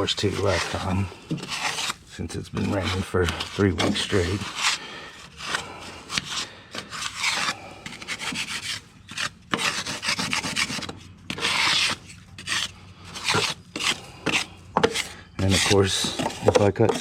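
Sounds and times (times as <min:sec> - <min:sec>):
wood scraping grass off mower deck: 0:00.0 - 0:17.0.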